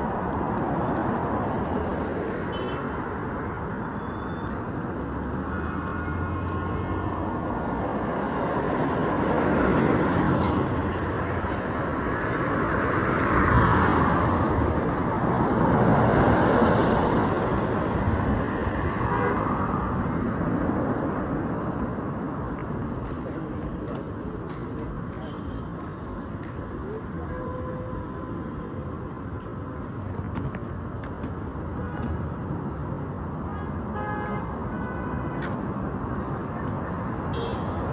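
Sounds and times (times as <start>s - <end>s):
vehicles passing by: 0.0s - 37.9s.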